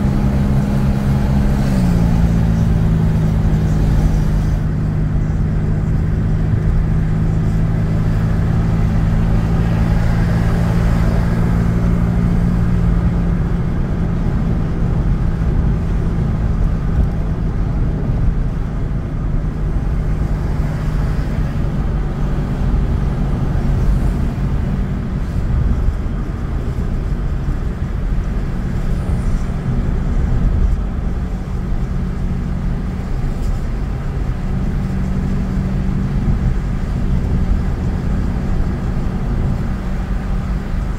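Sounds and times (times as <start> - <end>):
tyre and road noise: 0.0 - 40.9
vehicle engine hum: 0.0 - 40.9.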